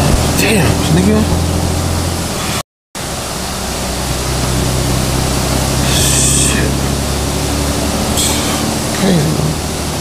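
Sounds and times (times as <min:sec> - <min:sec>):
truck rumble from inside trailer: 0:00.0 - 0:10.0.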